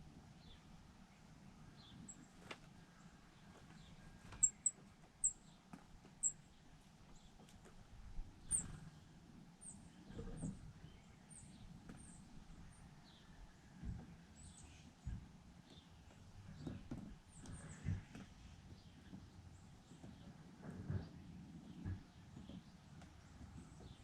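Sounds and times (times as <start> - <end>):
small birds chirping: 0.4 - 24.0.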